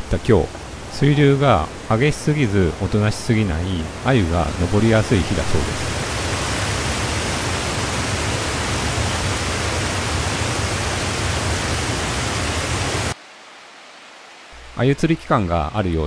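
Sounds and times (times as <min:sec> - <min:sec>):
waterfall roaring over rock: 0:00.0 - 0:14.6.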